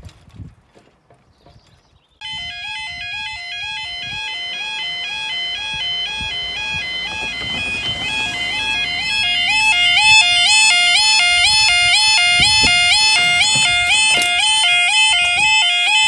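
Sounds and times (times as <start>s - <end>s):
electronic two-tone alarm: 2.2s - 16.0s.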